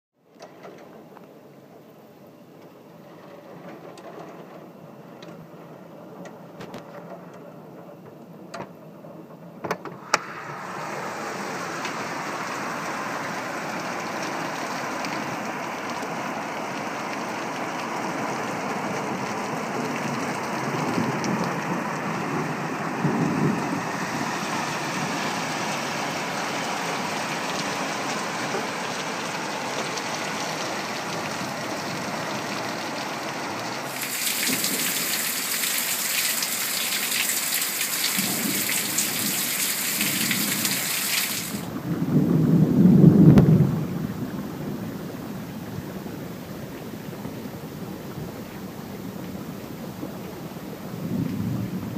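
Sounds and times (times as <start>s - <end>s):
heavy rain: 1.4s - 7.7s, 10.0s - 51.9s
raindrops ticking close by: 10.1s - 51.9s.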